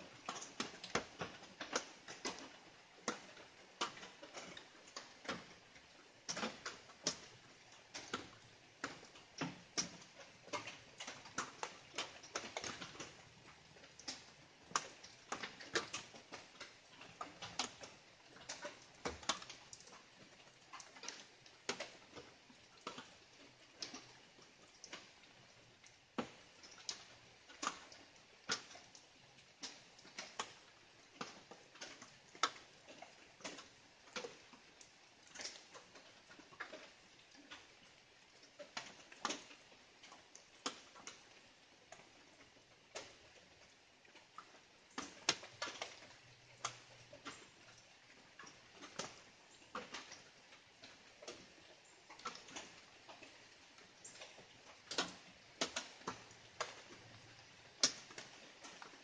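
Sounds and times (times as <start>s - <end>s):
light rain drops pitter-pattering: 0.0s - 59.0s.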